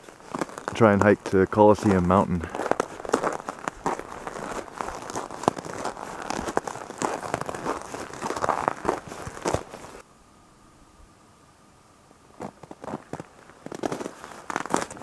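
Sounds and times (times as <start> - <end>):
footsteps crunching on snow: 0.0 - 10.0, 12.4 - 15.0
faint hum: 0.0 - 15.0.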